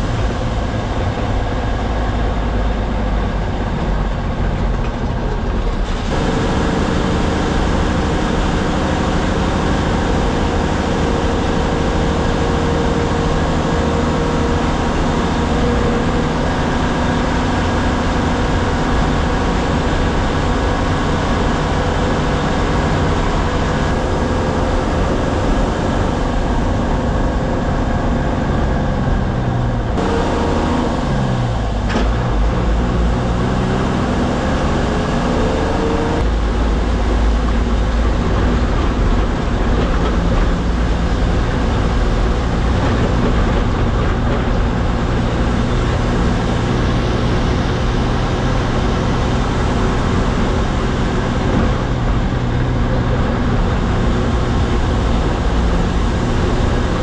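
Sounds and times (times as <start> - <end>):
bus diesel engine rumble: 0.0 - 57.0
road noise: 0.0 - 57.0.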